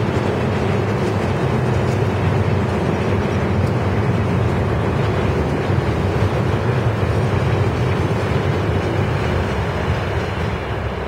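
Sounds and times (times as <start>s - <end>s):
freight train rumbling: 0.0s - 11.0s.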